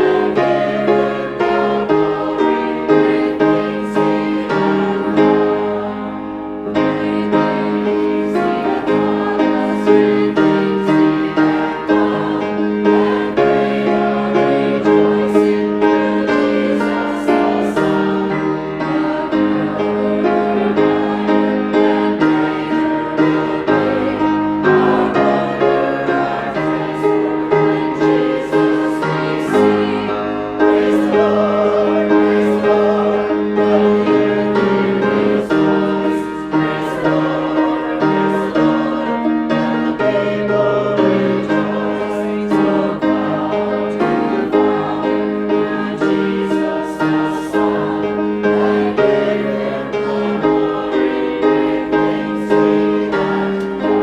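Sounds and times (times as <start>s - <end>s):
choir singing: 0.0s - 54.0s
piano accompaniment: 0.0s - 54.0s.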